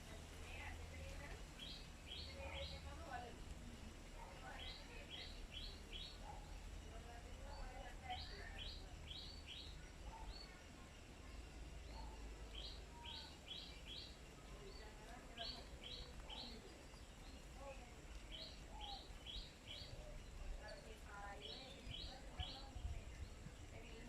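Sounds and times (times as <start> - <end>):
soft lower bird chirps: 0.5 - 24.0.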